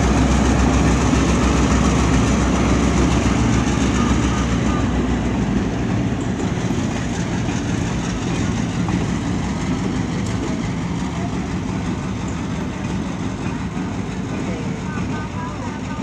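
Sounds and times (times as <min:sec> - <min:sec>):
train cars rumbling on track: 0:00.0 - 0:16.0.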